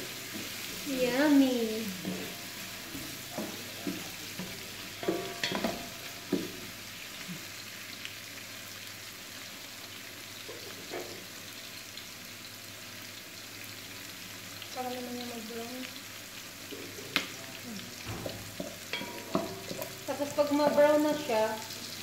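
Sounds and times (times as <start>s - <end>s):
onions sizzling in butter: 0.0s - 22.0s.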